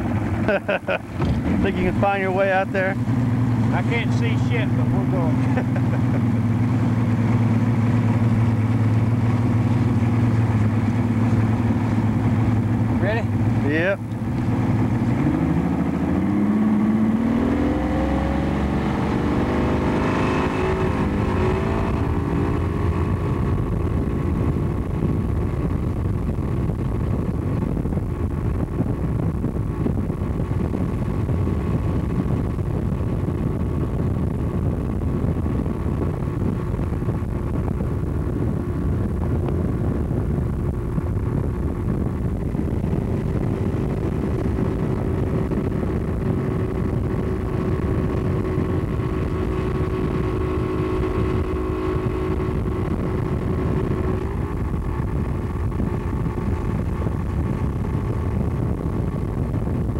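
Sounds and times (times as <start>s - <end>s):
outboard motor speeding up: 0.0s - 59.9s
wind and water rushing: 0.0s - 59.9s.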